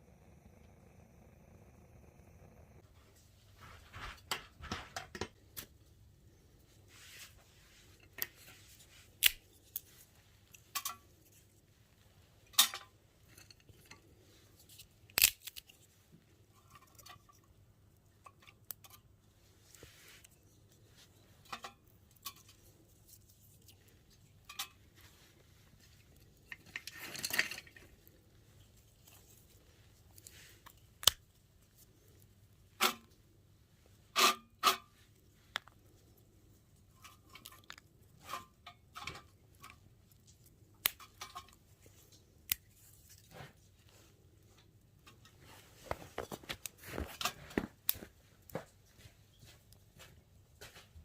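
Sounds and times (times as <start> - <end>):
wood fire crackling: 6.9 - 49.0.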